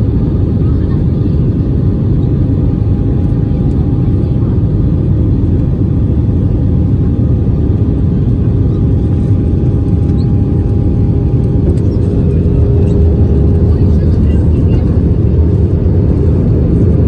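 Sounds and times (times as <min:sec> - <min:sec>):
airliner engines and airflow rumble: 0:00.0 - 0:17.0.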